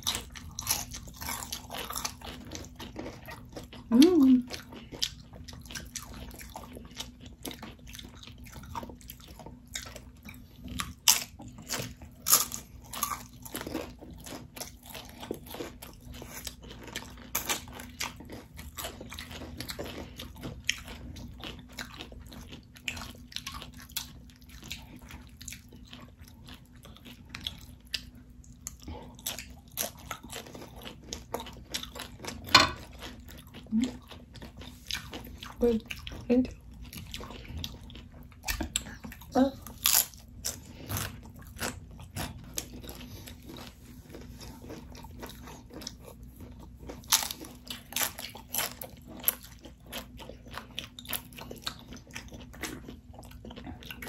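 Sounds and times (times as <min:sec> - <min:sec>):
tortilla chips crunching: 0:00.0 - 0:35.7, 0:36.6 - 0:54.0
chewing: 0:00.0 - 0:54.0
faint steady hum: 0:00.0 - 0:54.0.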